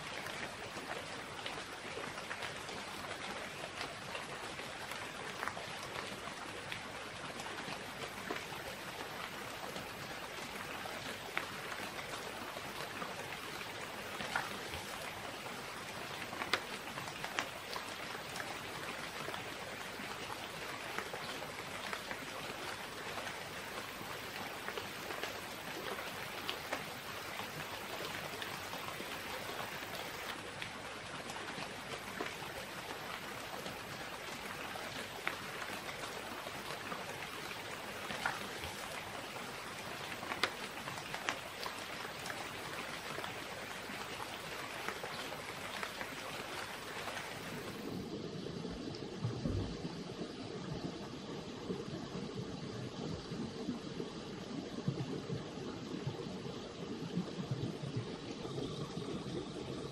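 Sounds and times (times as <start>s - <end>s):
light ticks and drips: 0.0s - 59.9s.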